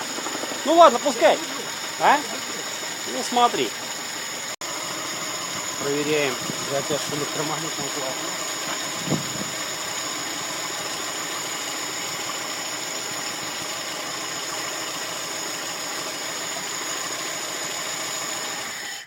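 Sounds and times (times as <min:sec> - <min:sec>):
car engine idling: 0:00.0 - 0:18.4.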